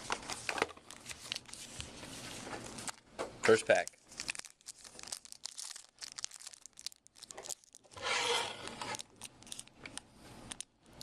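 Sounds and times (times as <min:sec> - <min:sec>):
wrapper crinkling and tearing: 0:00.0 - 0:08.0, 0:08.6 - 0:11.0.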